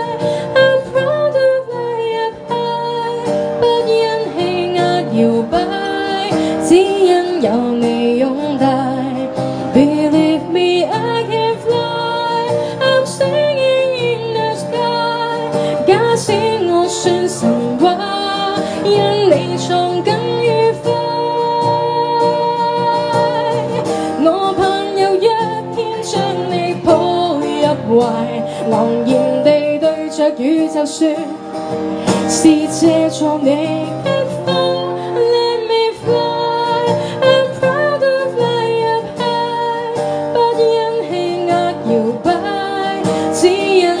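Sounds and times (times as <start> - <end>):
strummed acoustic guitar: 0.0 - 44.0
woman singing into microphone: 0.0 - 44.0.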